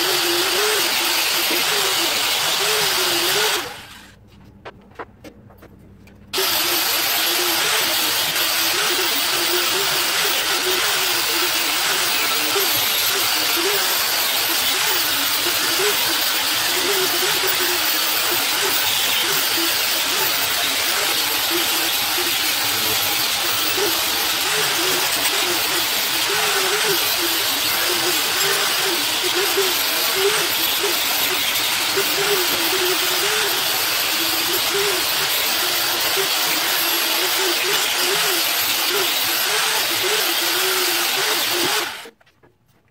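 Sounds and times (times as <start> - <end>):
grinder hissing on metal: 0.0 - 4.1, 6.4 - 42.1
power tool rasping on metal: 0.0 - 4.1, 6.4 - 42.1
grinder motor hum: 0.0 - 42.2.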